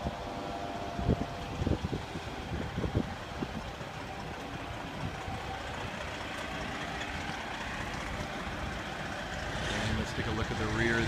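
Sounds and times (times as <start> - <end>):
vehicle rumble: 0.0 - 11.0.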